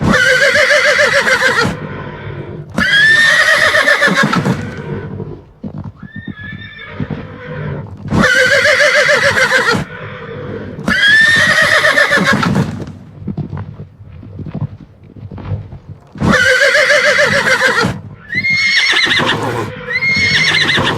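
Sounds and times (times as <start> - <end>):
horse neighing: 0.0 - 5.4, 6.0 - 12.7, 16.2 - 20.9.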